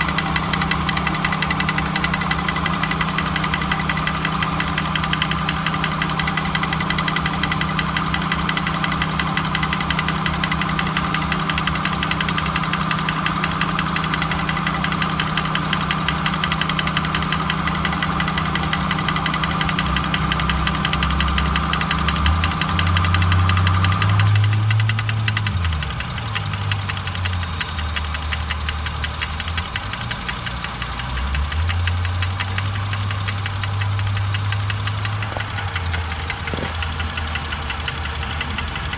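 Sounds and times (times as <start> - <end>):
car engine running with grinding: 0.0 - 38.9
fast even ticking: 0.0 - 38.9.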